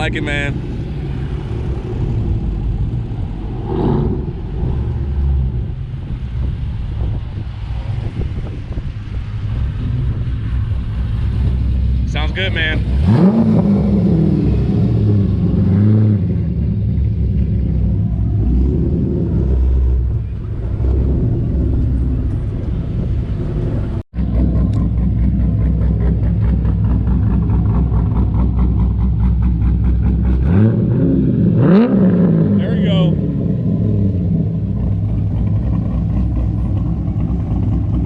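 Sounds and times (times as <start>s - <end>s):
car engine with throttle blips: 0.0s - 38.0s.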